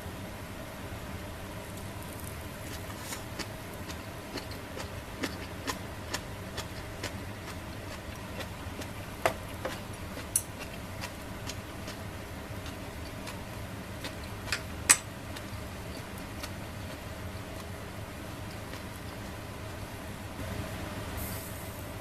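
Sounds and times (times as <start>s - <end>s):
steady low hum: 0.0s - 22.0s
squid crackling on a grill: 1.6s - 20.4s.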